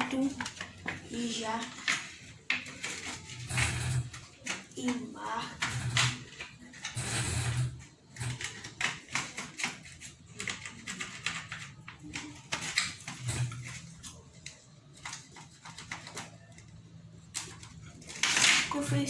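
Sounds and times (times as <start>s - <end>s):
small parts clicking and tapping: 0.0s - 19.0s.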